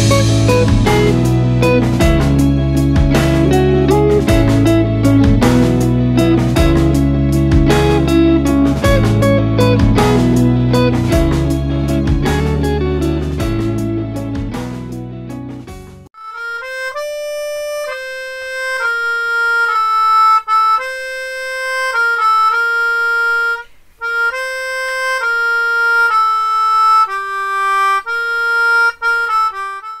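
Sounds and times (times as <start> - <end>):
solo wind instrument melody: 0.0 - 14.3, 16.2 - 30.0.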